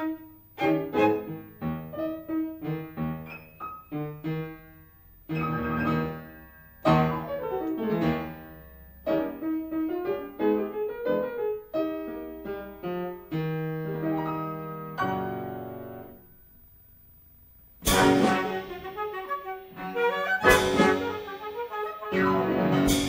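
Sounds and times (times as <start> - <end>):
piano music: 0.0 - 16.2, 17.8 - 23.0.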